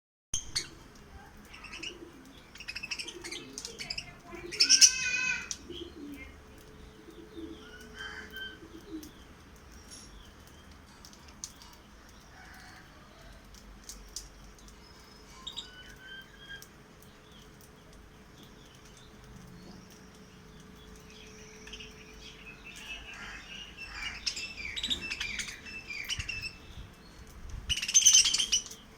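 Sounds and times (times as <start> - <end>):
lovebirds chirping: 0.4 - 13.4, 14.4 - 28.9.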